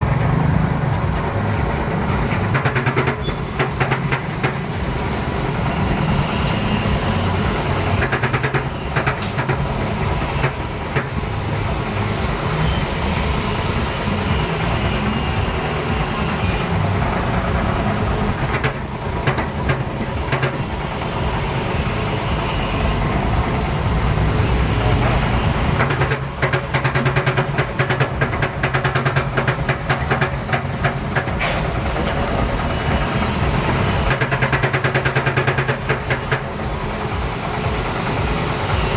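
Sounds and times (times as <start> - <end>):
machine motor hum: 0.0 - 38.9.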